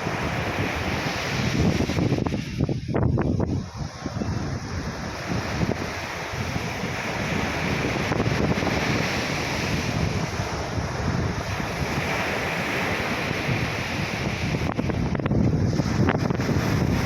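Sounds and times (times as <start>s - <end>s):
waves washing onto beach: 0.0s - 17.0s
wind buffeting microphone: 0.0s - 17.0s.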